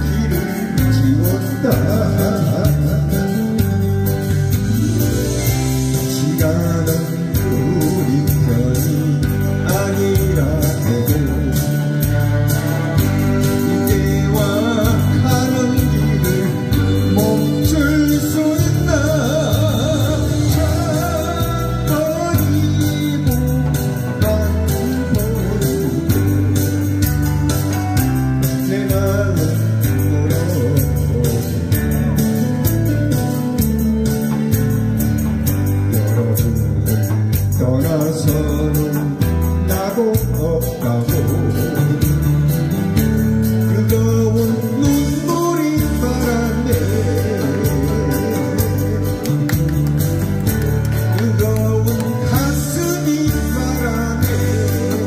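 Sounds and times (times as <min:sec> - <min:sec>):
person singing: 0:00.0 - 0:32.2, 0:35.8 - 0:55.0
backing music with guitar and beat: 0:00.0 - 0:55.0.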